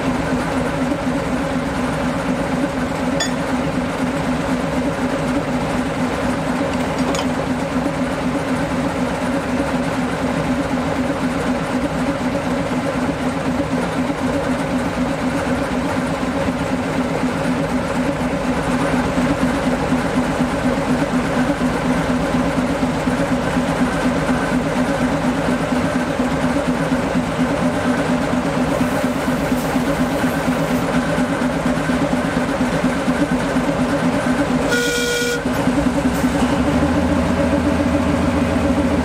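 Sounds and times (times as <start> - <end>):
diesel locomotive engine idling: 0.0 - 39.0.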